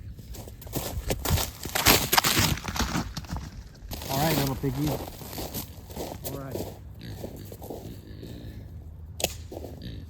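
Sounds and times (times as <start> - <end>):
footsteps through grass: 0.2 - 8.4.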